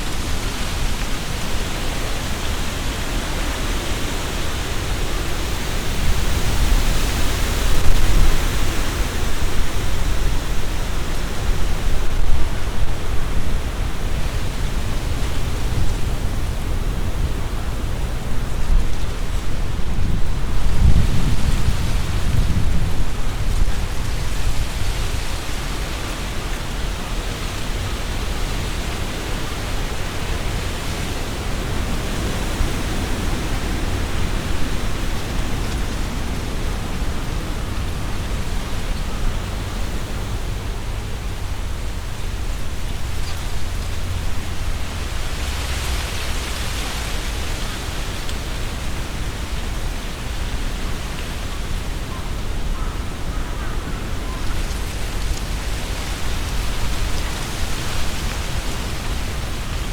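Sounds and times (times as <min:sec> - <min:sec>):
wind rumble on microphone: 0:00.0 - 0:59.9
wind rustling tree leaves: 0:00.0 - 0:59.9.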